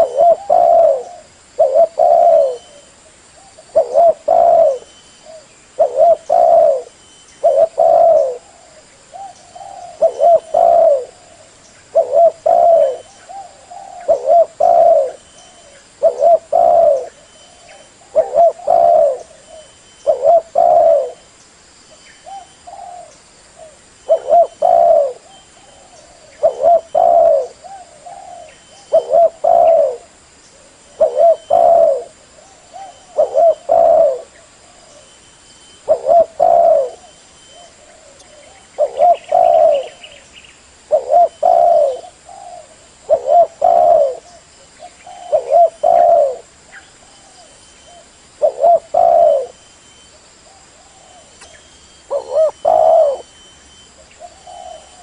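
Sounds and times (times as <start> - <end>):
dove cooing: 0.0 - 21.3, 22.2 - 35.2, 35.8 - 40.2, 40.8 - 49.6, 50.5 - 55.0.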